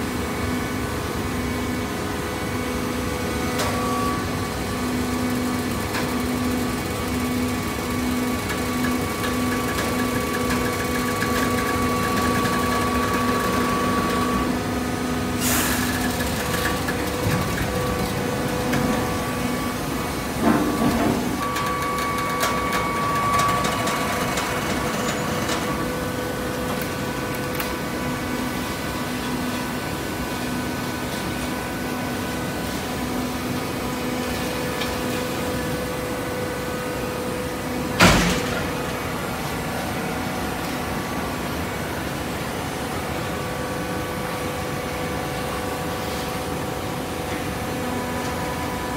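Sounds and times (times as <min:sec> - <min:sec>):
baler motor and hydraulic pump hum: 0:00.0 - 0:48.9.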